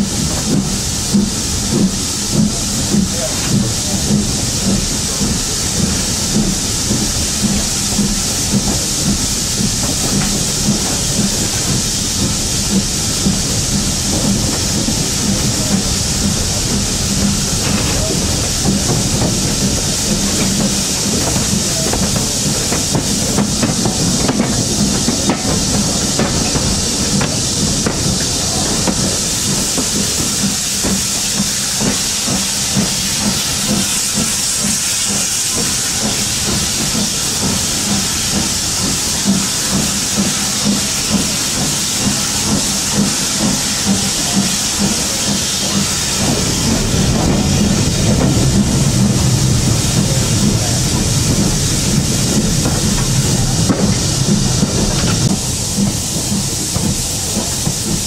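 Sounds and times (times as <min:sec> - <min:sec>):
steam locomotive hissing: 0:00.0 - 0:58.0
train rumbling on rails: 0:00.0 - 0:58.0.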